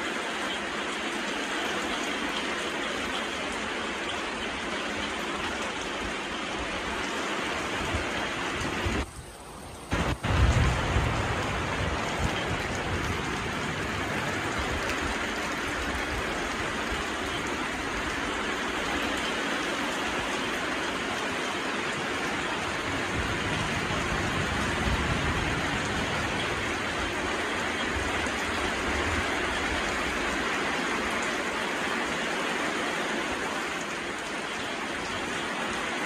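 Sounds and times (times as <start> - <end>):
heavy rain hissing: 0.0 - 36.0.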